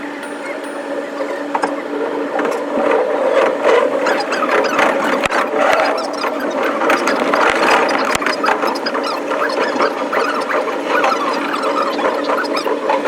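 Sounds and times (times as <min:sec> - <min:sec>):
high-pitched squeal-like tones: 0:00.0 - 0:13.0
steady hum: 0:00.0 - 0:13.0
fast train clatter: 0:00.5 - 0:13.0.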